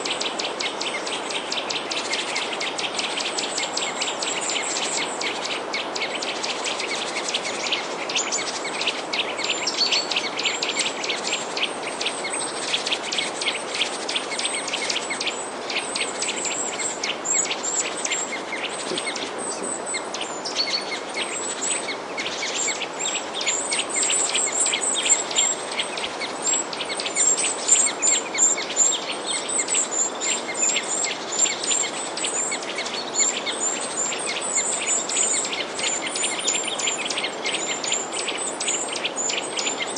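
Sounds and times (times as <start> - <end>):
small birds chirping: 0.0 - 39.9
steady hiss: 0.0 - 39.9.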